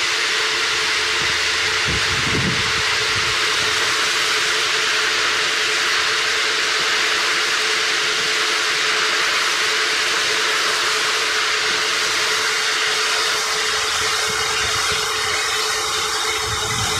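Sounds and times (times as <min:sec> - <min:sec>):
hulling machine rushing: 0:00.0 - 0:16.9
machine hum: 0:00.0 - 0:16.9.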